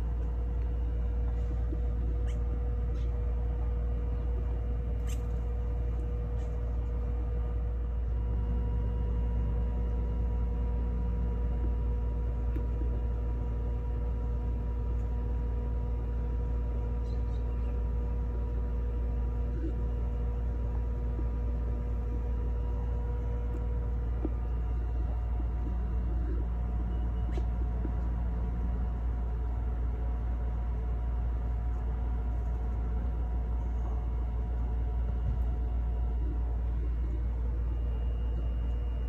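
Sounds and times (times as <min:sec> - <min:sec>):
machine rumble and hum: 0:00.0 - 0:39.0.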